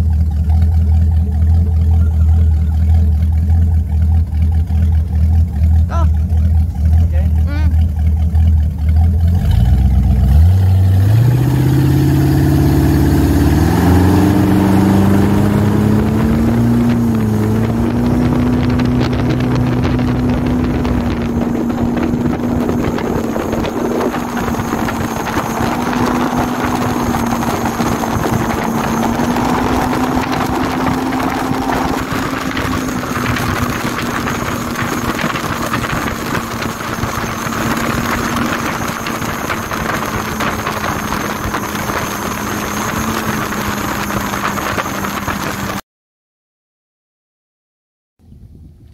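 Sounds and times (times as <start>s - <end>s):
powerboat engine accelerating: 0.0s - 45.8s.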